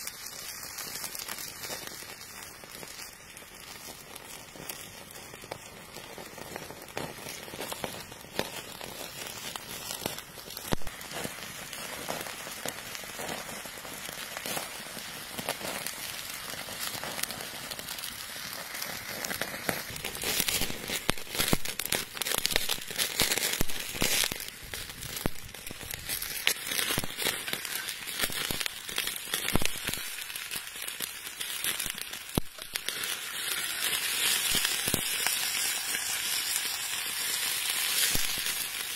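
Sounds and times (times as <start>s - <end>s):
meat sizzling on hot stone: 0.0s - 38.9s
wood fire crackling: 0.0s - 38.9s.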